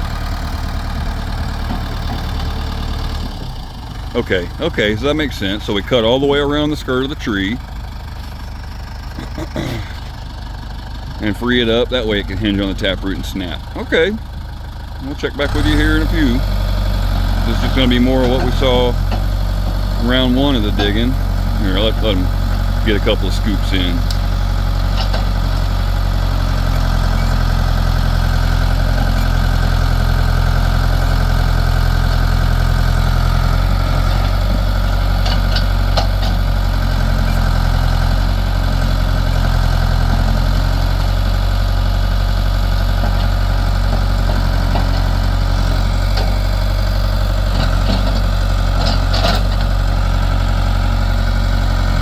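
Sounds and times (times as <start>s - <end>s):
backhoe engine running: 0.0s - 52.0s.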